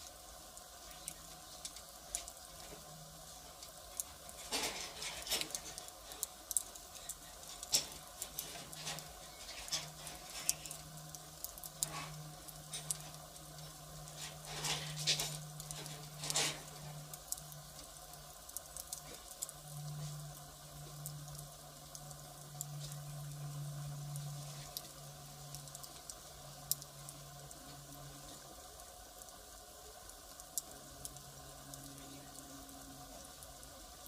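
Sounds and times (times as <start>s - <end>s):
firewood fire crackling: 0.0s - 34.0s.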